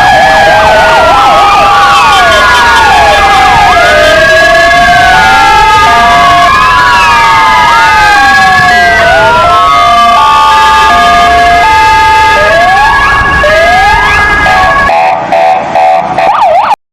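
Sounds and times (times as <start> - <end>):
rising siren whoops: 0.0 - 16.8
steady high siren note: 0.0 - 16.8
two-note hi-lo siren: 0.0 - 16.8
wailing sirens: 0.0 - 16.8.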